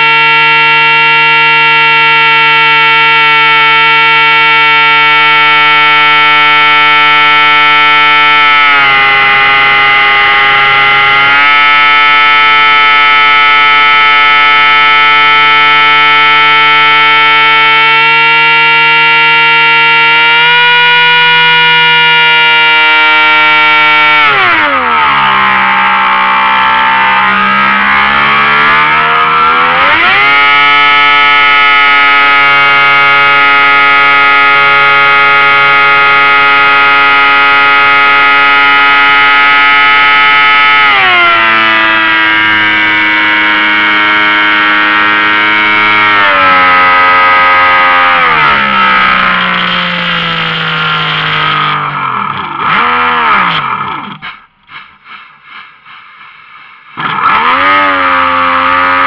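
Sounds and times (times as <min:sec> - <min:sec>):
model aircraft motor whining: 0:00.0 - 0:54.4, 0:57.0 - 0:59.0.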